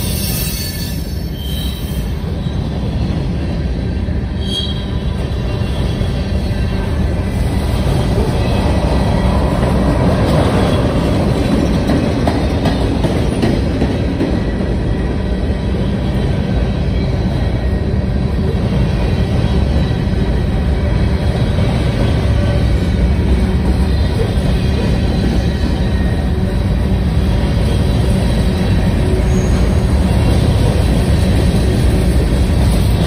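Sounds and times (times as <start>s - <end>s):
steel wheels rumbling on rails: 0.0s - 33.0s.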